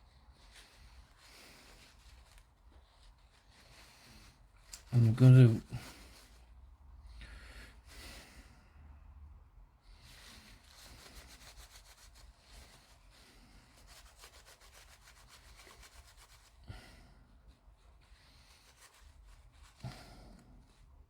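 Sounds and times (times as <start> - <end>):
paper towel rubbing plastic: 0.0 - 6.6, 10.0 - 21.0.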